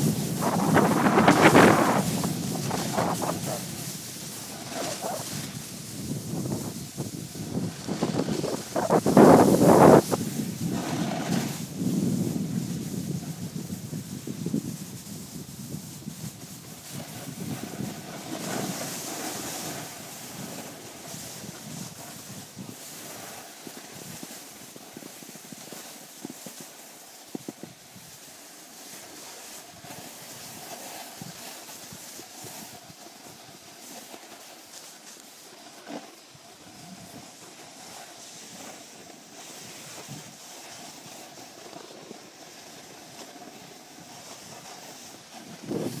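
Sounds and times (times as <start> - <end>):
snowboard scraping over snow: 0.0 - 46.0.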